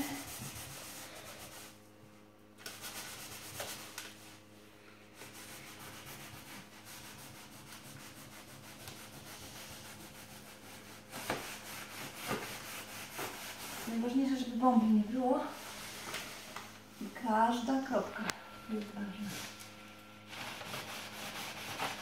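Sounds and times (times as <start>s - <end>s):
cloth rubbing on film: 0.0s - 1.8s, 5.2s - 18.0s, 18.6s - 22.0s.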